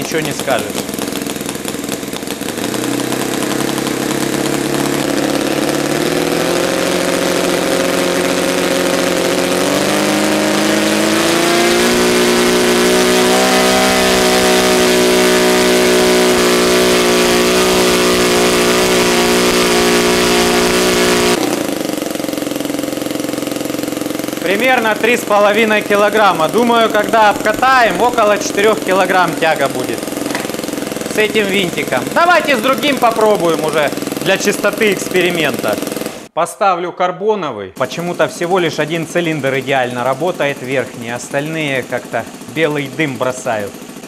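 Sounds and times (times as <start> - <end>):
model radial engine revving: 0.0 - 36.4, 37.8 - 44.0.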